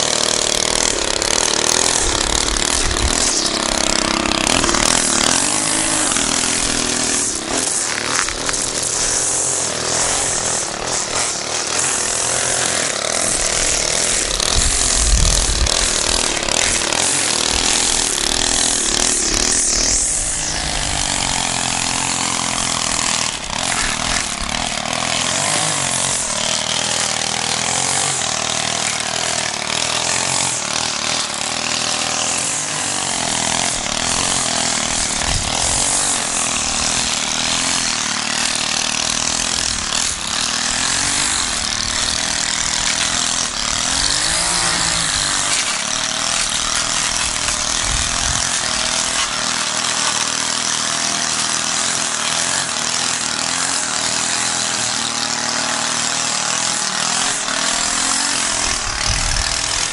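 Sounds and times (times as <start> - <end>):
push mower engine cutting grass: 0.0 - 59.9.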